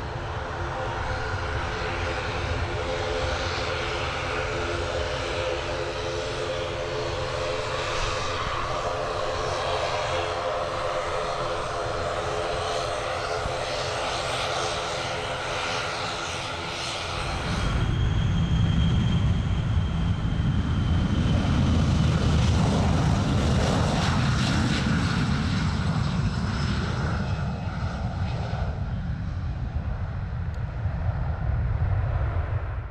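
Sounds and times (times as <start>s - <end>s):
jet engines at takeoff power: 0.0s - 32.9s.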